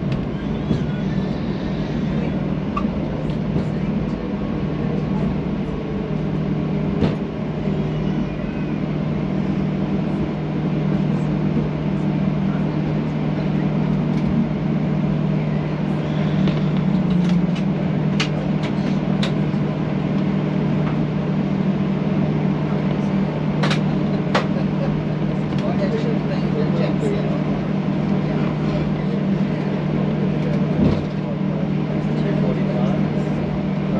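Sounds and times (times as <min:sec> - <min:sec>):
airplane engines humming: 0:00.0 - 0:33.9.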